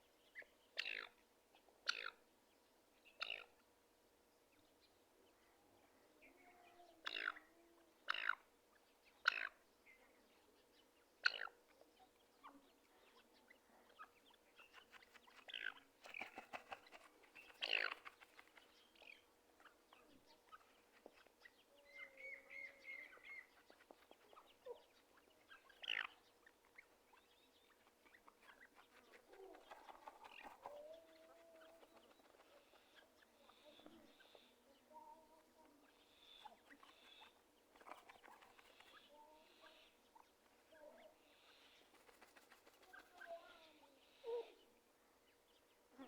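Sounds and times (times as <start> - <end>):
quiet warbling bird notes: 4.6 - 41.9.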